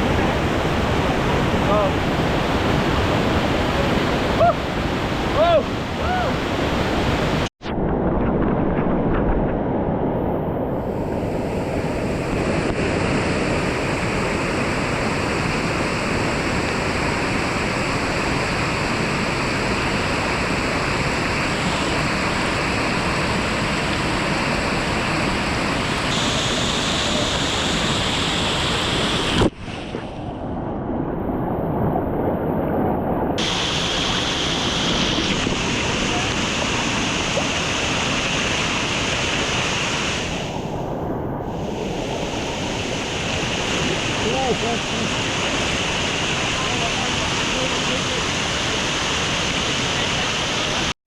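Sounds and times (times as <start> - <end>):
waterfall rushing: 0.0 - 7.5, 11.0 - 29.5, 33.4 - 40.8, 41.6 - 51.0.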